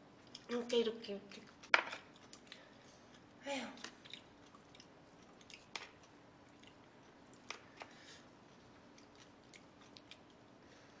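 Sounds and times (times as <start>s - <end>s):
quiet chewing: 0.1s - 0.6s, 1.3s - 10.9s.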